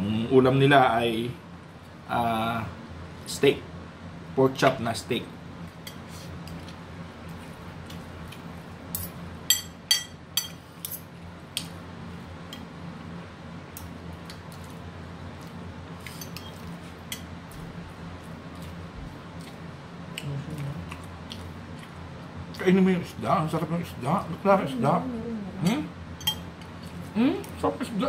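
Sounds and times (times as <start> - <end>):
range hood fan humming: 0.0 - 28.0.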